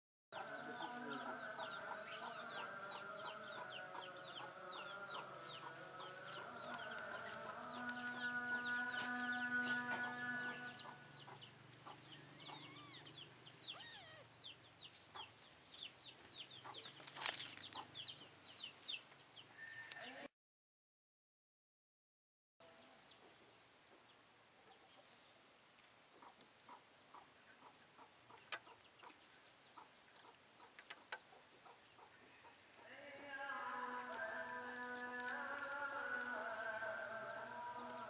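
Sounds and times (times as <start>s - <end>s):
chicks peeping: 0.4s - 19.0s, 26.1s - 38.0s.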